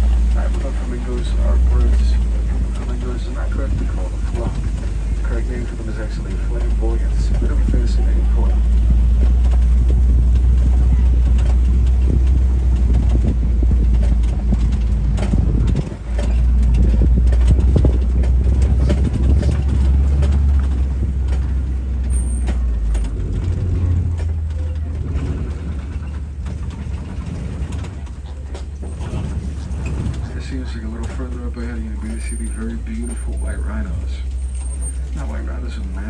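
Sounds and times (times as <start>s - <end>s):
knocks and rattles: 0.0s - 36.0s
truck engine rumbling: 0.0s - 36.0s.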